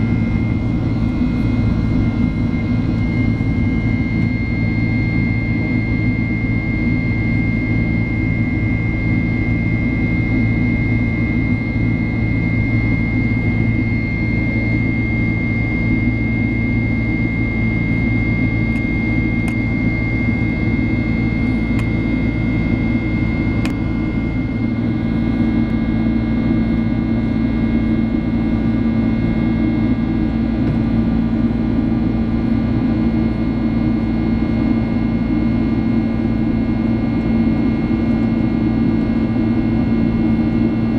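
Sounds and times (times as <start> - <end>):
jet engine and airflow rumble: 0.0 - 40.9
low hum: 0.0 - 40.9
steady high whine: 0.0 - 40.9.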